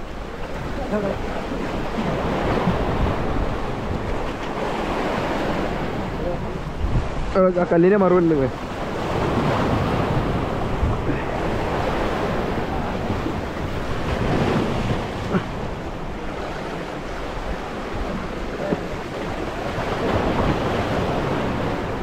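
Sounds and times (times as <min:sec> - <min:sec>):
sea surf breaking on rocks: 0:00.0 - 0:22.0
wind buffeting microphone: 0:00.0 - 0:22.0.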